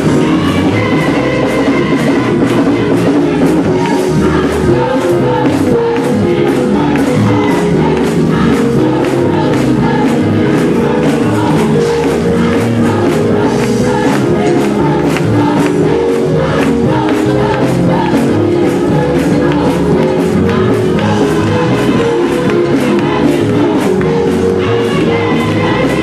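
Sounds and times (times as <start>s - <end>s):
clapping beat: 0.0s - 26.0s
gospel choir singing: 0.0s - 26.0s.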